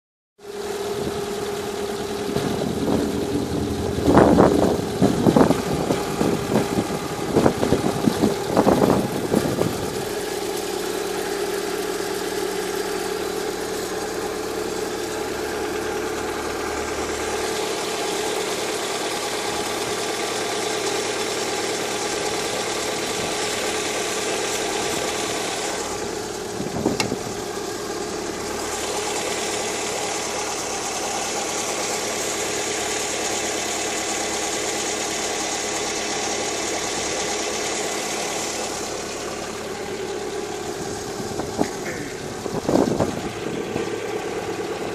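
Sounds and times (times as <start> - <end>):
car engine idling: 0.4 - 44.9
loud irregular engine knocks: 0.8 - 38.8, 39.5 - 44.9.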